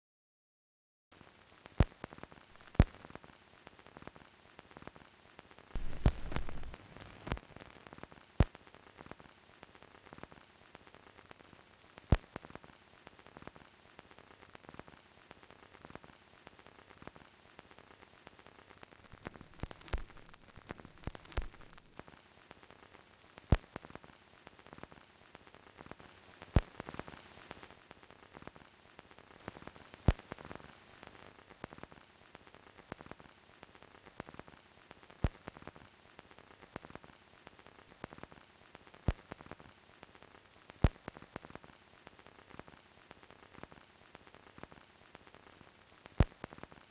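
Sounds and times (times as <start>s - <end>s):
film soundtrack hiss and crackle: 1.1s - 46.9s.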